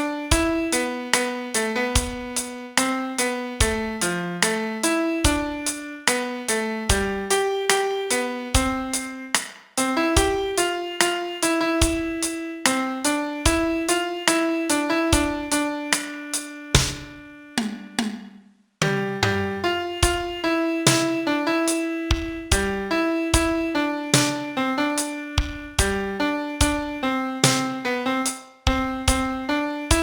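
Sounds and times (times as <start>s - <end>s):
slow solo piano: 0.0s - 17.6s, 19.0s - 30.0s.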